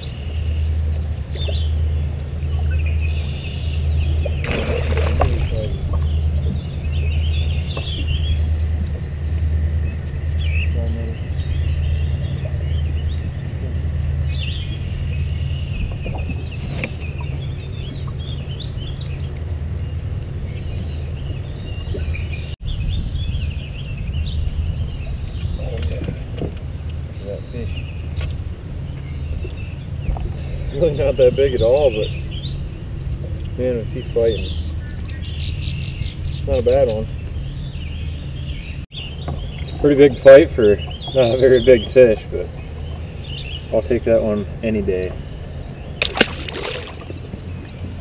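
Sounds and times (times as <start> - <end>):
birds chirping: 0.0 - 48.0
steady low pulsing hum: 0.0 - 48.0.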